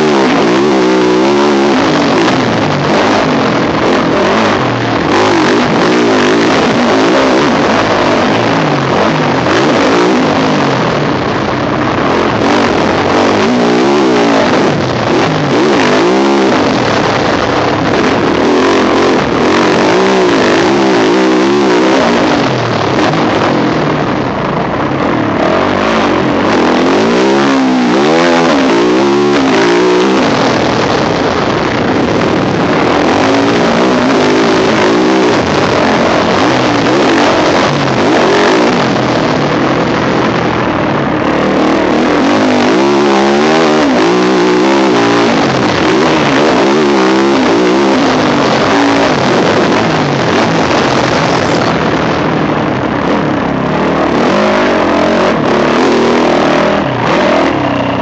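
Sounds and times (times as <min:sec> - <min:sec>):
motocross engine revving: 0:00.0 - 0:58.0
steady rough noise: 0:00.0 - 0:58.0.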